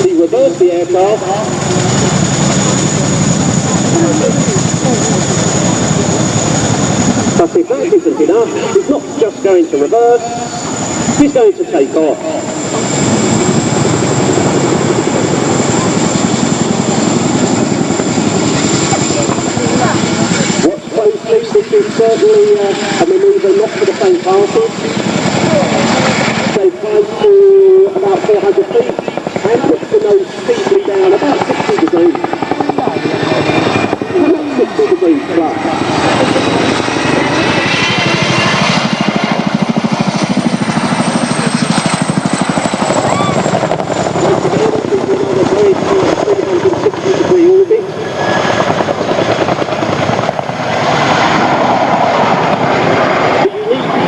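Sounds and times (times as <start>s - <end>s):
helicopter rotors beating: 0.0s - 54.0s
high helicopter whine: 0.0s - 54.0s.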